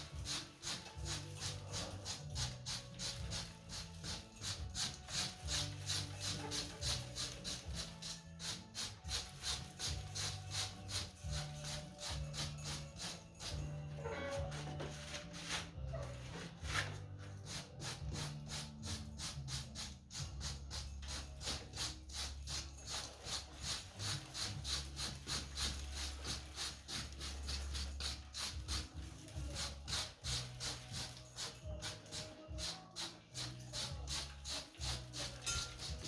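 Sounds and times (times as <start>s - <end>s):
rhythmic scrubbing: 0.0s - 16.1s, 16.7s - 36.0s.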